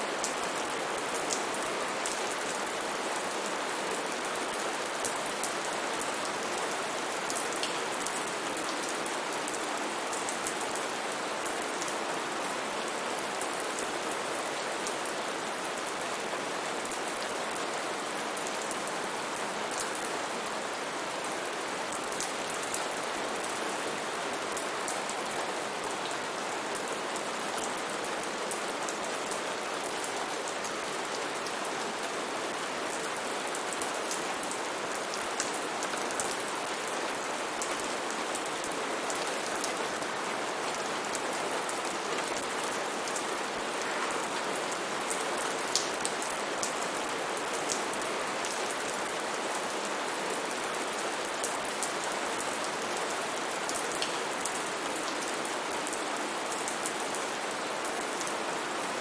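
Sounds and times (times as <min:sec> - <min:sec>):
heavy rain on foliage: 0:00.0 - 0:59.0.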